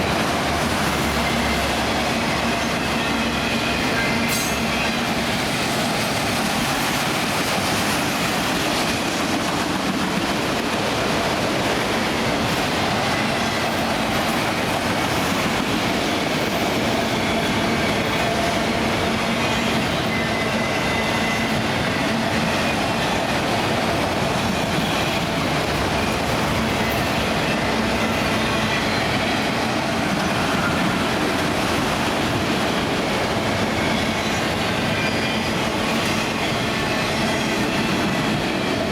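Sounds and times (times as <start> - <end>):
freight cars rumbling on rails: 0.0 - 38.9.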